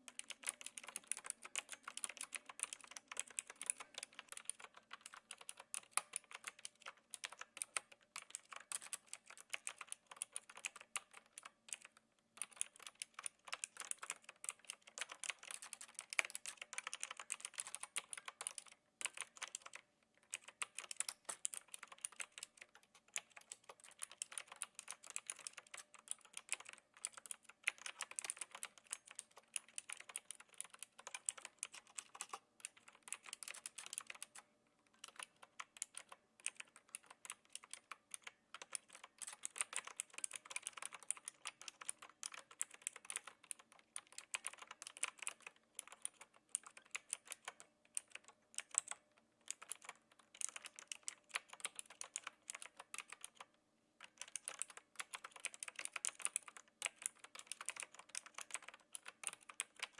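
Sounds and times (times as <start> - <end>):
clicky mechanical keyboard typing: 0.0 - 59.9.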